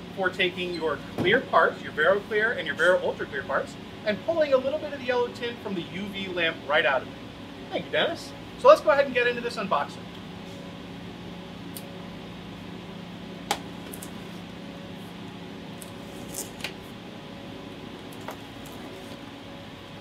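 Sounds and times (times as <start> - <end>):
room hum: 0.0 - 20.0.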